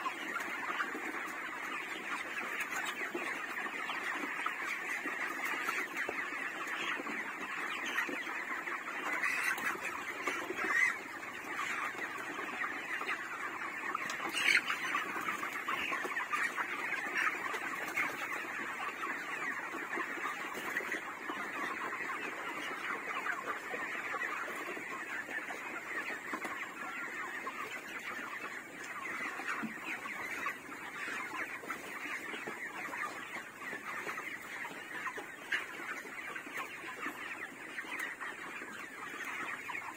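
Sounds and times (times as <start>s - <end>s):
flock of chickens calling: 0.0s - 39.9s.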